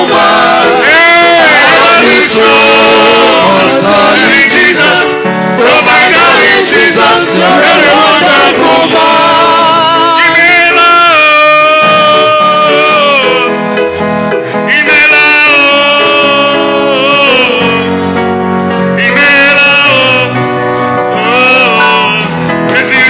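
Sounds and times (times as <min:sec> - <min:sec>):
gospel singing: 0:00.0 - 0:23.0
instrumental accompaniment: 0:00.0 - 0:23.0.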